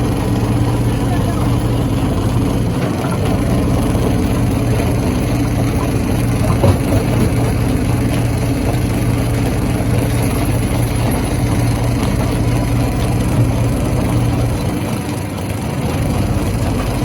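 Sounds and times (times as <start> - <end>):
stone crusher droning: 0.0 - 17.0.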